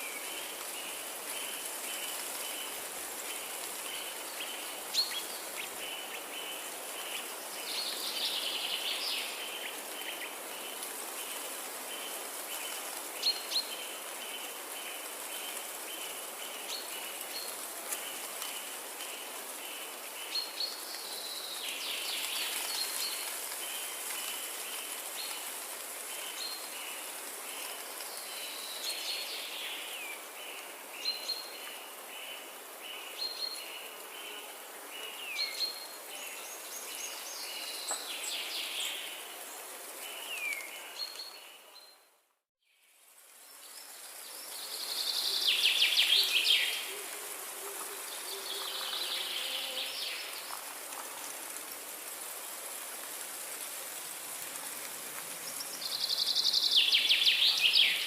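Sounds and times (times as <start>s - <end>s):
steady background hiss: 0.0s - 41.8s, 42.7s - 58.0s.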